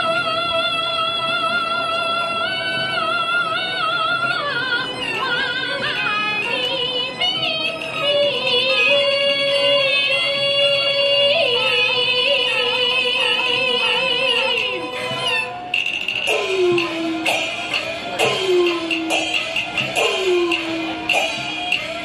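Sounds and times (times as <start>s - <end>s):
instrumental accompaniment: 0.0s - 22.0s.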